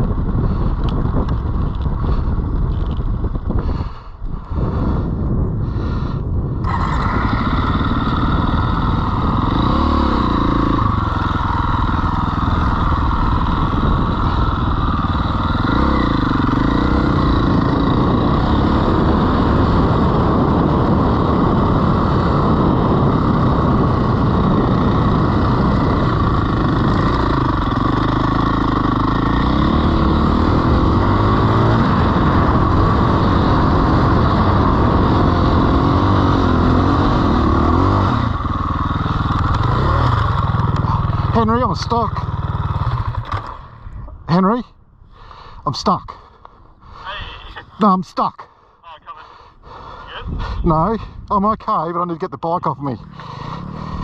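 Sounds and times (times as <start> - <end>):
dirt bike engine running: 0.0 - 44.6, 52.8 - 54.0.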